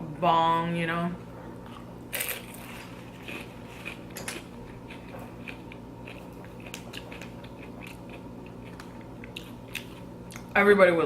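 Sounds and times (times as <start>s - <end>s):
person chewing crunchy chips: 1.6s - 10.5s.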